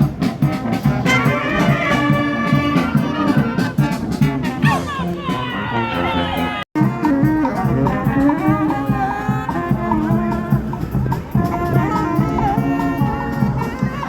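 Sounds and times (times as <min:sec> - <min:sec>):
band melody over bass line: 0:00.0 - 0:14.0
drums: 0:00.0 - 0:14.0.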